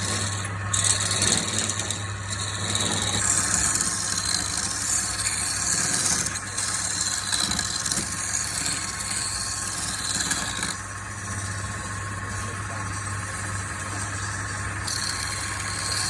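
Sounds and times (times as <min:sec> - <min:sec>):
machine humming with hiss: 0:00.0 - 0:16.0.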